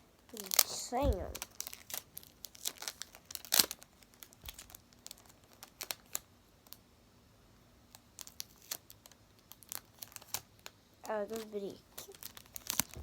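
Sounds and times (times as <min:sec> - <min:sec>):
taped paper crinkling: 0:00.3 - 0:06.8, 0:07.9 - 0:13.0.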